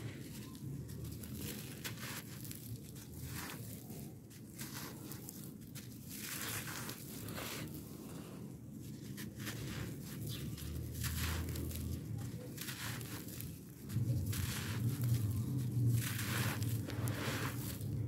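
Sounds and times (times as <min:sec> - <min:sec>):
dirt crunching between hands: 0:00.0 - 0:18.0
grains trickling onto dirt: 0:00.0 - 0:18.0.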